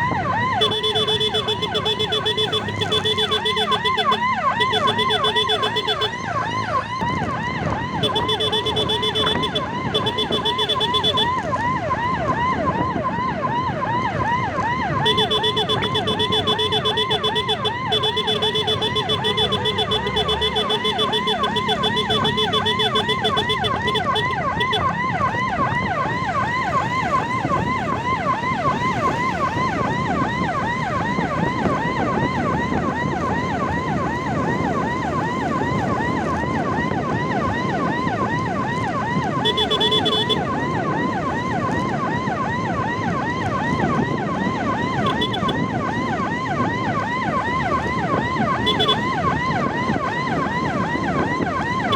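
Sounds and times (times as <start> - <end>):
electronic siren yelping: 0.0 - 51.9
low road noise: 0.0 - 51.9.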